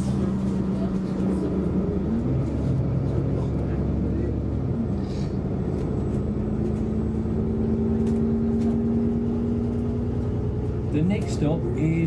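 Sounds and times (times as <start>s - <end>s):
bus engine running: 0.0s - 12.0s
road rumble: 0.0s - 12.0s.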